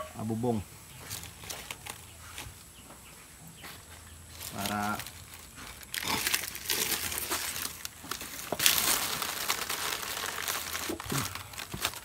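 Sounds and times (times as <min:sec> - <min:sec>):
dry leaves crinkling: 0:00.9 - 0:02.8, 0:03.6 - 0:12.0.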